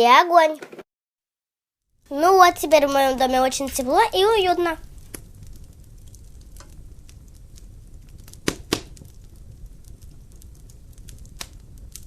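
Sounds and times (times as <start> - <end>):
fire pops: 2.0 - 12.0
wood fire crackling: 2.0 - 12.0
low rumble: 2.1 - 12.0.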